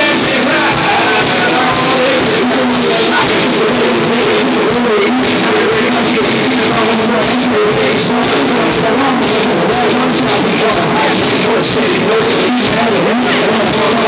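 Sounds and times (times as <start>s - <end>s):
live rock band playing: 0.0s - 14.0s
man singing into a microphone: 0.0s - 14.0s.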